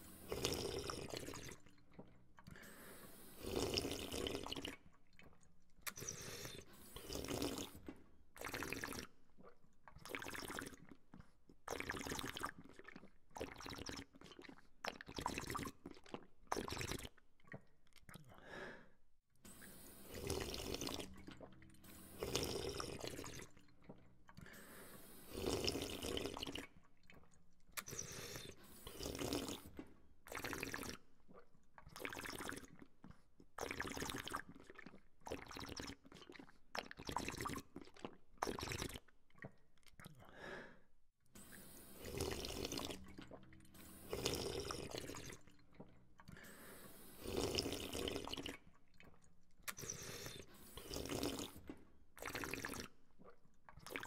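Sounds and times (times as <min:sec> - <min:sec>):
person sipping and slurping water: 0:00.0 - 0:54.0.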